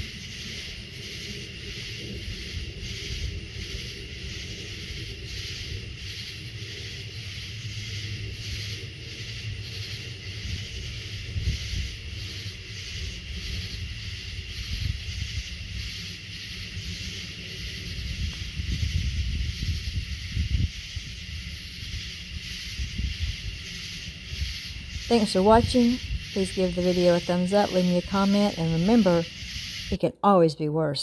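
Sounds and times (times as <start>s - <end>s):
wind rumbling on microphone: 0.0s - 30.0s
insect chirping: 0.0s - 30.2s.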